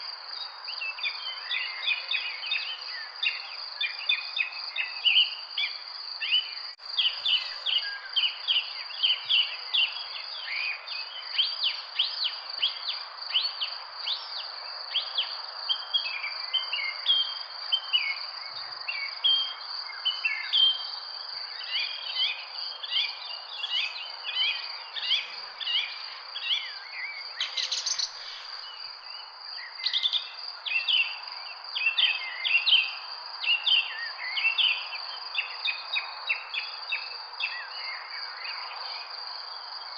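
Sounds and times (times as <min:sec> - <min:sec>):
insect drone: 0:00.0 - 0:39.9
small birds chirping: 0:00.0 - 0:39.9.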